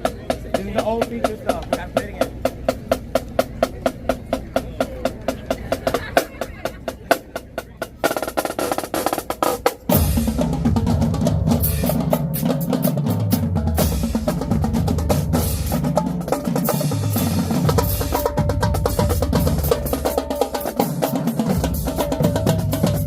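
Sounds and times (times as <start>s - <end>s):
marching drumline playing: 0.0s - 23.0s
rapid snare drum strokes: 0.0s - 23.0s.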